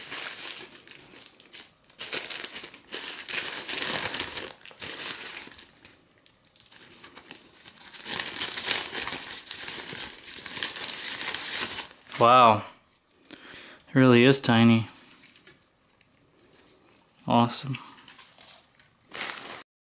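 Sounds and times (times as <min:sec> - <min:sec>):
wrapping sheet crinkling: 0:00.0 - 0:12.3, 0:14.9 - 0:19.6.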